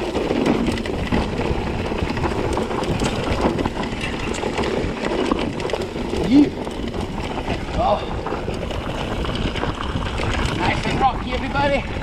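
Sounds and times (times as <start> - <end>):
bike rattling clicks and knocks: 0.0 - 12.0
tyre and wind noise: 0.0 - 12.0.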